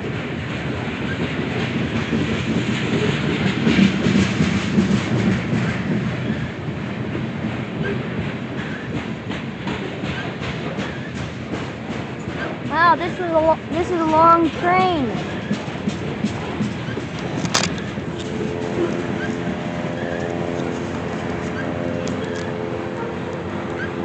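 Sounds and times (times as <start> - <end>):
train wheels clicking over rails: 0.0 - 24.0.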